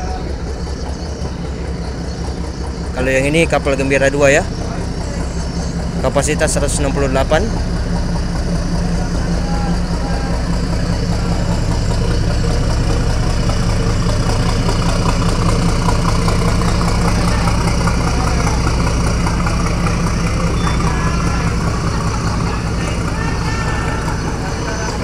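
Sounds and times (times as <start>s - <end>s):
ferry engines droning: 0.0s - 25.0s.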